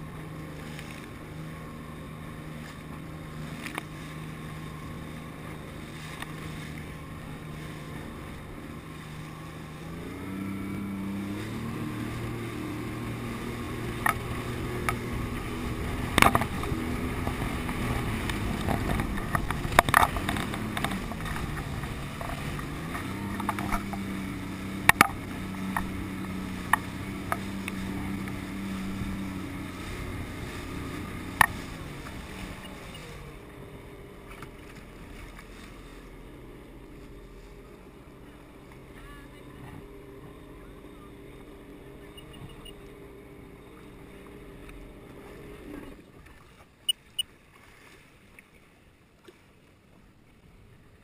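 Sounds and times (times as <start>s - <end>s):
water rushing: 0.0s - 51.0s
watercraft engine running: 0.0s - 51.0s.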